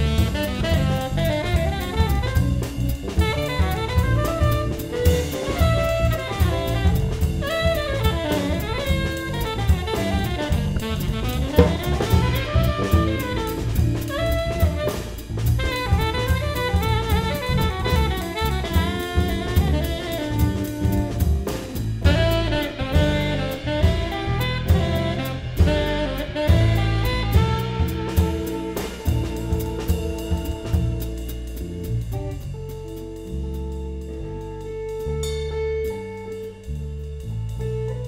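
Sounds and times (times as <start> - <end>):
drum kit cymbal beat: 0.0 - 38.0
electric bass: 0.0 - 38.0
tenor saxophone solo: 0.0 - 38.0.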